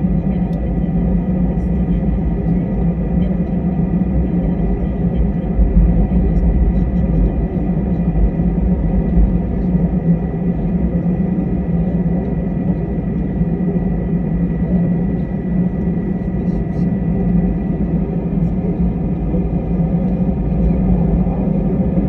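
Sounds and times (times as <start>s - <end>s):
airliner engine and airflow rumble: 0.0s - 22.0s.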